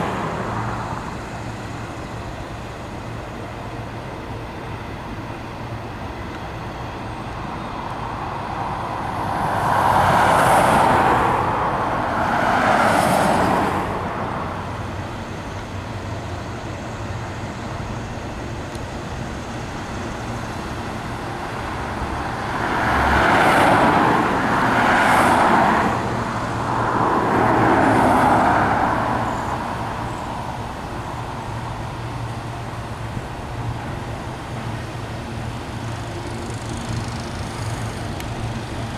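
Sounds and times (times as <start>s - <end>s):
cars passing by: 0.0s - 38.9s.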